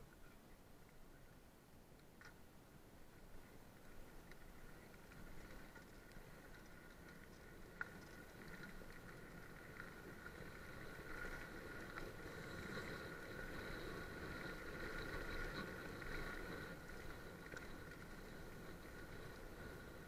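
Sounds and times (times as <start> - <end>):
faint high whir: 0.0 - 20.0
bike tyres rolling on trail: 0.1 - 20.0.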